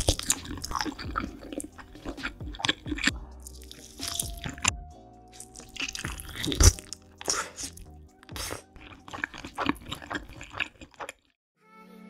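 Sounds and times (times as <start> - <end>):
crunching and chewing: 0.0 - 11.4
background music: 0.0 - 12.0.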